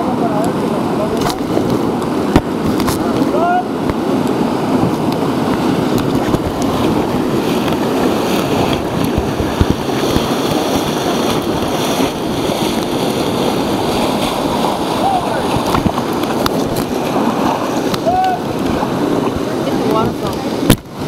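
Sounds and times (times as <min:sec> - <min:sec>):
river whitewater rushing: 0:00.0 - 0:21.0.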